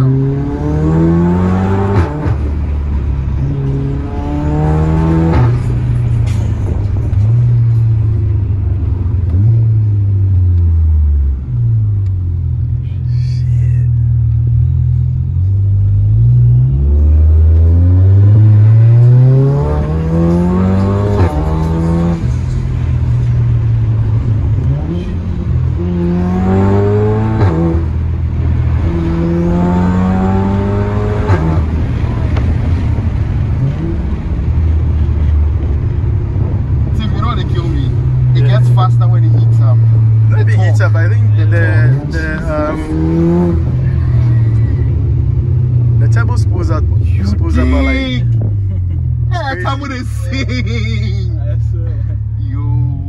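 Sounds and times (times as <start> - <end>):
car engine accelerating hard: 0.0 - 12.8, 14.0 - 53.0.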